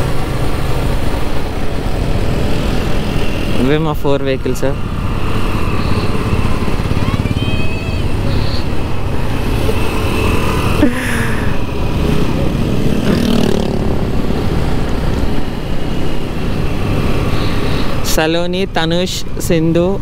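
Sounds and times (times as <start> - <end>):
motorcycle engine running: 0.0 - 18.0
other motorcycles and scooters: 0.0 - 20.0.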